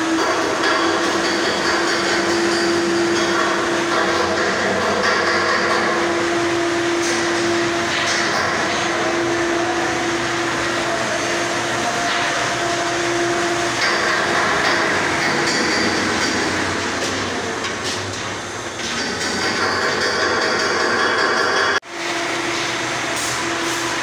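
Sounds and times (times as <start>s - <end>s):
high machine whine: 0.0s - 24.0s
industrial machinery droning hum: 0.0s - 24.0s.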